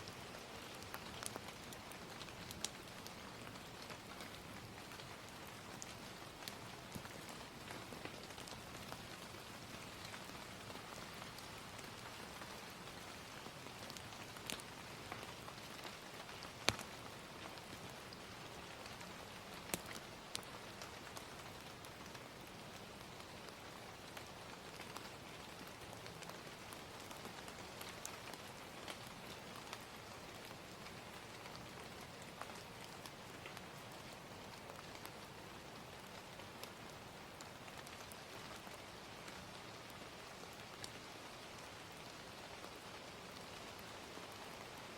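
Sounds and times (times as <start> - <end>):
fire crackling and popping: 0.0 - 43.7
rain hiss: 0.0 - 44.9.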